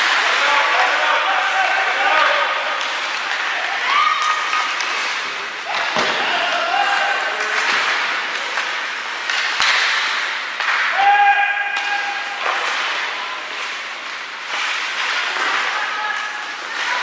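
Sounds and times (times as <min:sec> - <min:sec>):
hockey sticks and puck clacking: 0:00.0 - 0:17.0.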